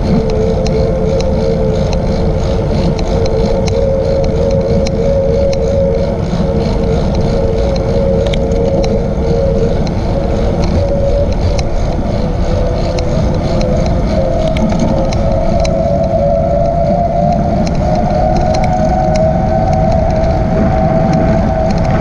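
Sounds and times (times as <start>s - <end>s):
light ticks: 0.0s - 22.0s
steady whine: 0.0s - 22.0s
wind on microphone: 0.0s - 22.0s.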